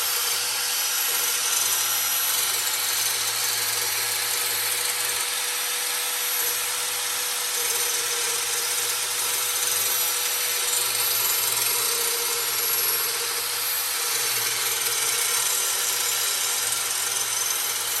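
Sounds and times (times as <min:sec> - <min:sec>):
angle grinder grinding steel: 0:00.0 - 0:18.0.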